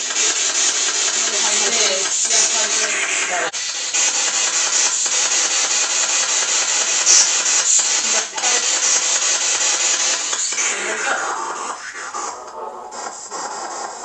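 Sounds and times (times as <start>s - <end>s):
radio static hissing: 0.0s - 14.0s.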